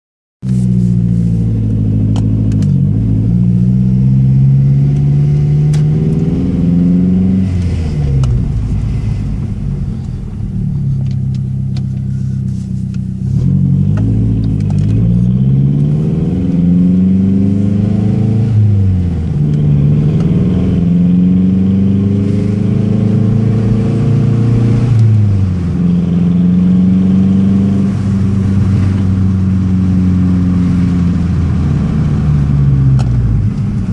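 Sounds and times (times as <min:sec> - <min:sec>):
loud car engine drone: 0:00.4 - 0:33.9.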